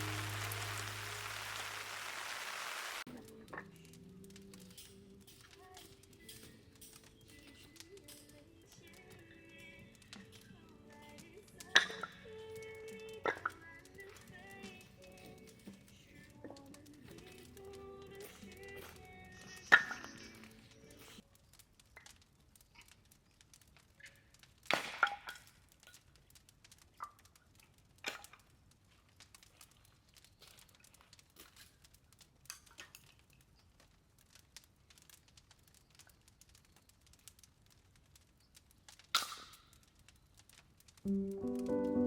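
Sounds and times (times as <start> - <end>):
clatter of objects: 3.1 - 41.0.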